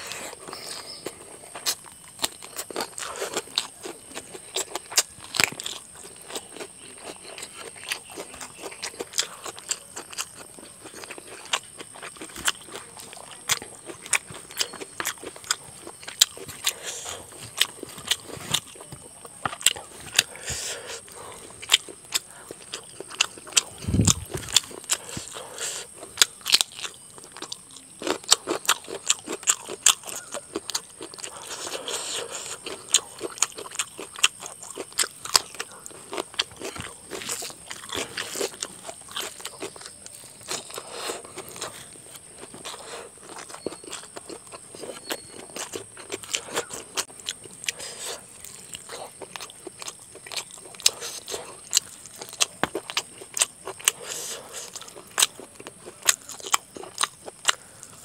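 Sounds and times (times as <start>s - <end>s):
chewing and lip smacking: 0.0s - 58.0s
food crunching: 0.0s - 58.0s.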